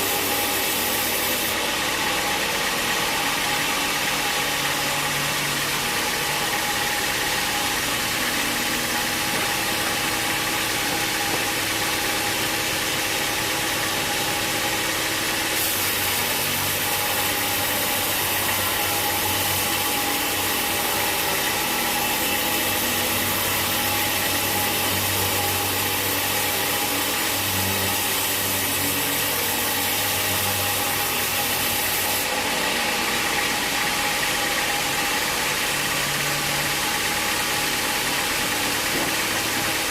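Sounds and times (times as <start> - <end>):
constant machine whine: 0.0 - 39.9
sawmill machinery drone: 0.0 - 39.9.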